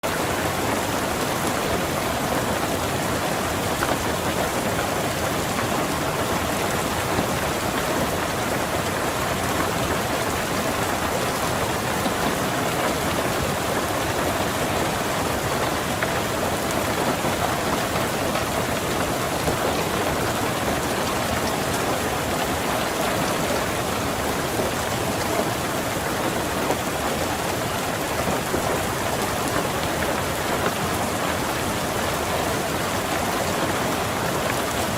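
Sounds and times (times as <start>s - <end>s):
heavy rain drumming on car roof: 0.0s - 34.9s.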